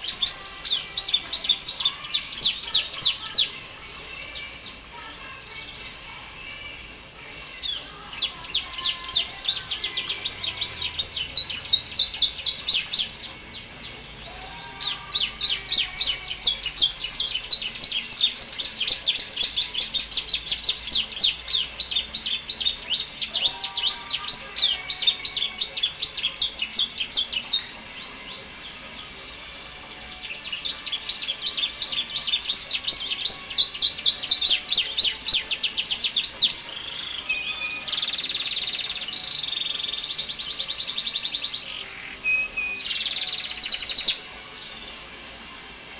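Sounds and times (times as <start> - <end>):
canary trilling: 0.0 - 45.9.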